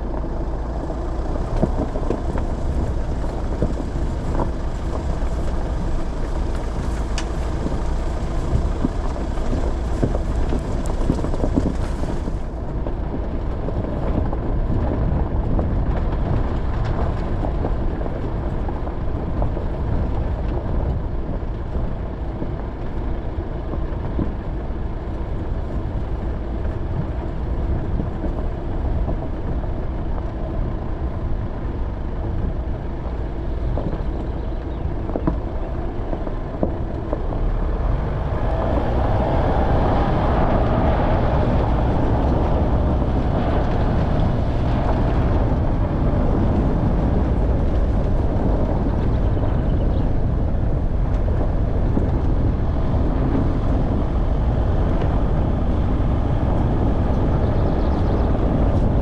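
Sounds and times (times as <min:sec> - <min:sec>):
off-road vehicle engine driving: 0:00.0 - 0:59.0.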